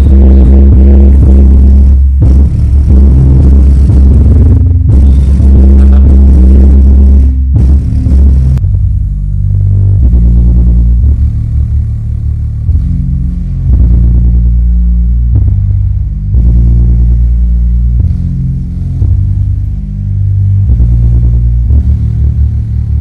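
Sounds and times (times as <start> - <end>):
bass-heavy music from subwoofer: 0.0 - 23.0.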